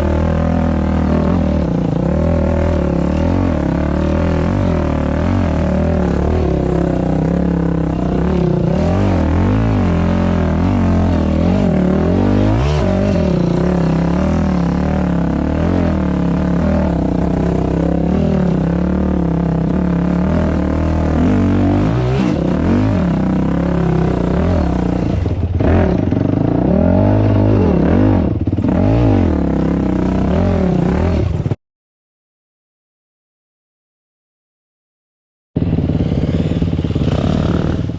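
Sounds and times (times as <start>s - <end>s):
dirt bike engine revving: 0.0s - 31.6s, 35.6s - 37.9s.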